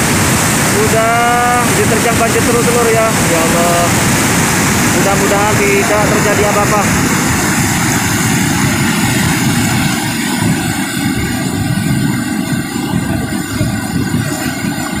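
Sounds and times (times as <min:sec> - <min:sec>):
rumble of mud flood: 0:00.0 - 0:15.0.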